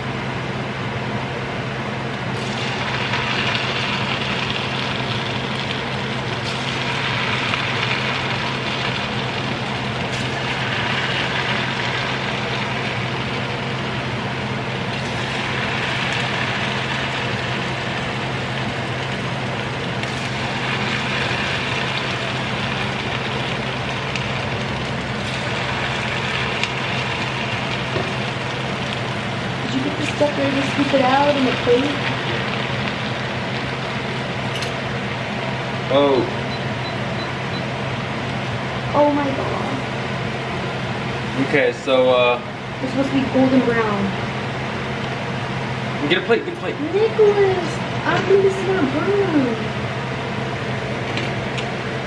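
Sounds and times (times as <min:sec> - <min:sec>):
dough frying in hot oil: 0:00.0 - 0:52.0
steady low hum: 0:00.0 - 0:52.0.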